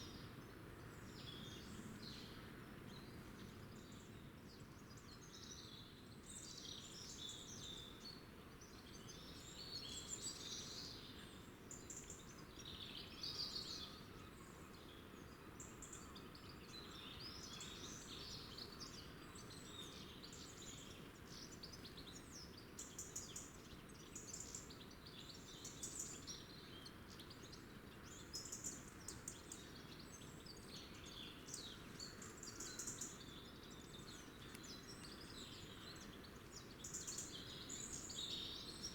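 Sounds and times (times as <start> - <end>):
faint background noise: 0.0 - 38.9
small songbirds chirping: 0.0 - 38.9.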